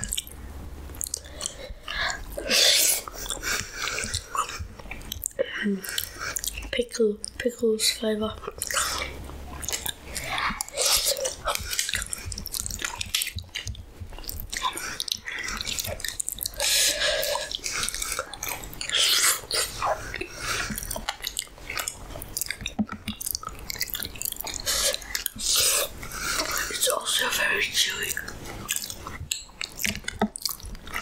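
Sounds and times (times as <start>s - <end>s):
person chewing: 0.0s - 31.0s.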